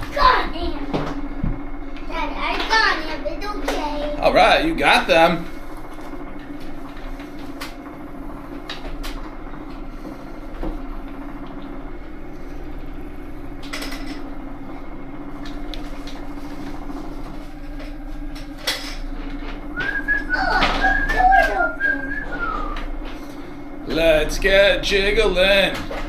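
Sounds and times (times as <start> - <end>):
vibration machine humming: 0.0 - 26.0.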